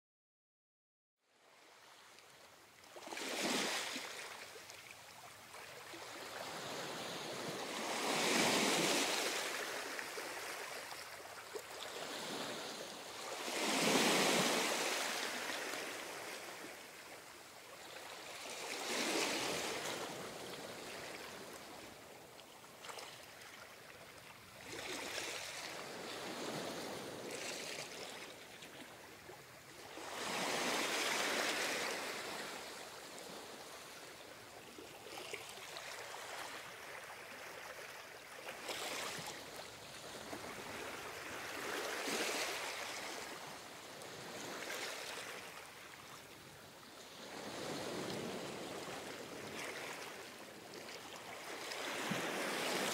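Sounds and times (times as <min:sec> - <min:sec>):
waves breaking on shore: 0:01.6 - 0:52.9.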